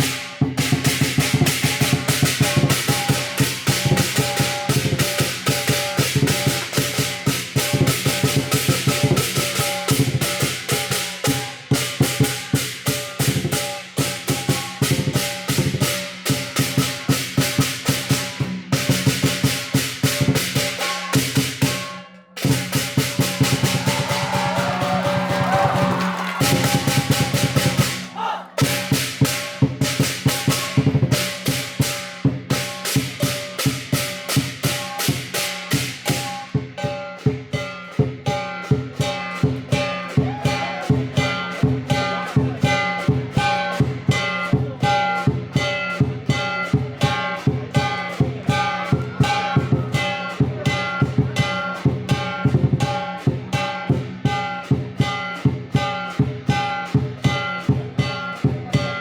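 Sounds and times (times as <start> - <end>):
cymbals clashing: 0.0 - 59.0
drum beating: 0.0 - 59.0.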